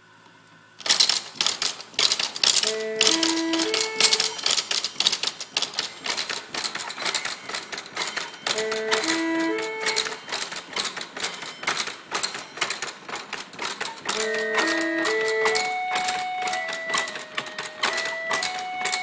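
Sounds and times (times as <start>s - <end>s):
mechanical clatter of organ works: 0.8s - 19.0s
held organ notes: 2.1s - 12.9s, 14.0s - 19.0s.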